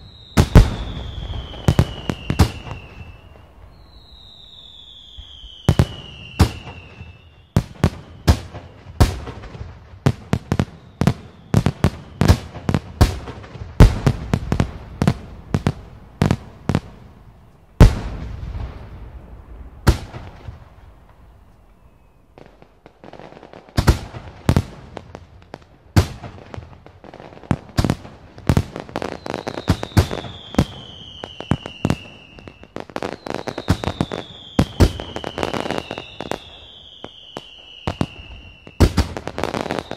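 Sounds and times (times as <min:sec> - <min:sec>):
firework whistles falling in pitch: 0:00.0 - 0:09.6, 0:10.3 - 0:19.0, 0:19.6 - 0:24.2, 0:28.9 - 0:39.9
firework bangs and crackle: 0:00.0 - 0:39.9.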